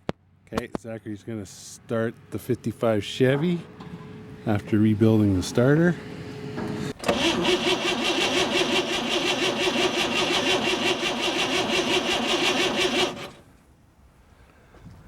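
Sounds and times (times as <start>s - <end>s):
truck engine cranking: 1.0s - 13.7s.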